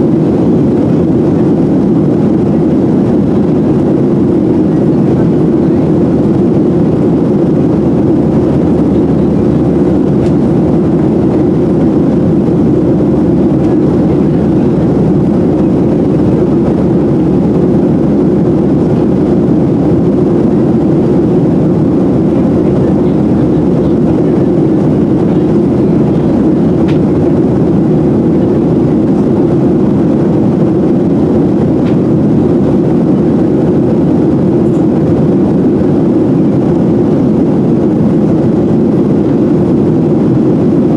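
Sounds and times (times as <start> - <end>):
airflow past fuselage: 0.0 - 40.9
jet engines rumbling: 0.0 - 40.9.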